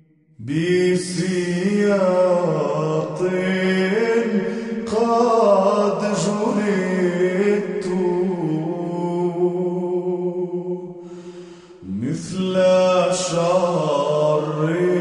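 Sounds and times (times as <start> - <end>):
person chanting slowly: 0.0 - 15.0.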